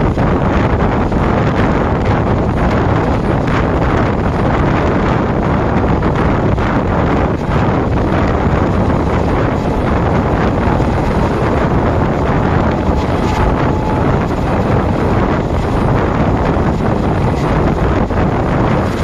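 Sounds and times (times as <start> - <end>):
train wheels on track: 0.0 - 19.0
wind on microphone: 0.0 - 19.0.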